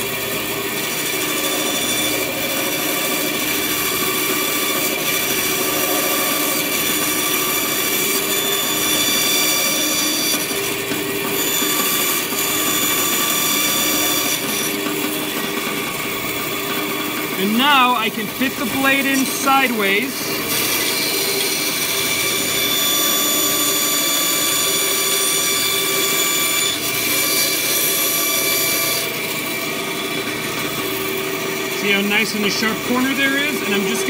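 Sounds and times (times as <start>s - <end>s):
bandsaw cutting plywood: 0.0s - 34.0s.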